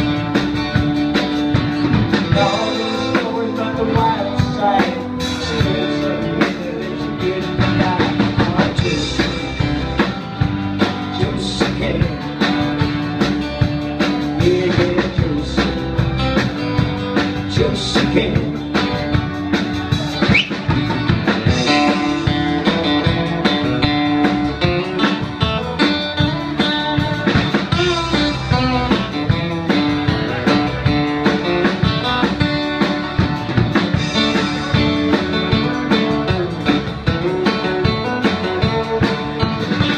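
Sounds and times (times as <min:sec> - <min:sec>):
live band with amplified guitars: 0:00.0 - 0:39.9.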